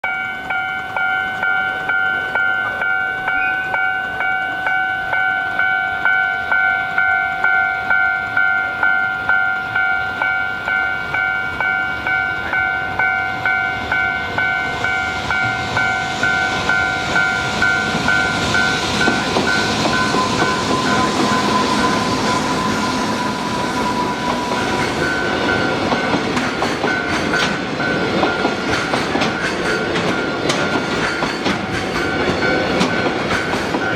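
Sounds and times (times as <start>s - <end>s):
level crossing bell ringing: 0.0s - 28.6s
train wheels rolling clatter: 6.5s - 33.9s.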